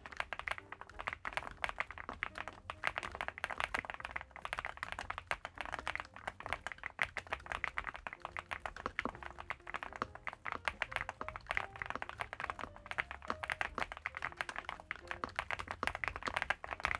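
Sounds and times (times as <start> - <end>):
fast typing on mechanical keyboard: 0.0 - 16.9.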